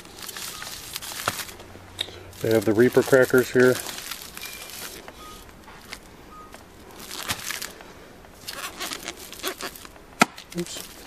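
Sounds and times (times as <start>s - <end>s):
foil crinkling and rustling: 0.0s - 1.7s, 2.3s - 6.1s, 6.8s - 11.0s.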